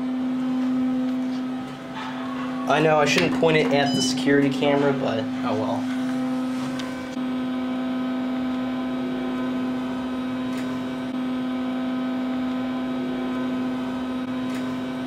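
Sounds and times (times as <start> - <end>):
hydraulic elevator pump humming: 0.0 - 15.0.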